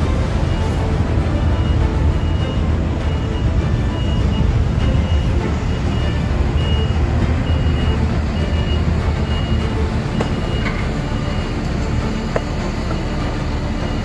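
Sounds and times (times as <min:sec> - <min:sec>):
diesel machinery rumbling: 0:00.0 - 0:14.0
reversing alarm beeping: 0:01.5 - 0:14.0.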